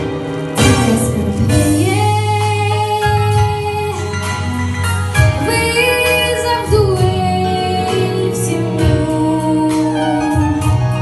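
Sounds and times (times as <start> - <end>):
backing music with bass and beat: 0.0 - 11.0
woman singing pop ballad: 0.6 - 11.0.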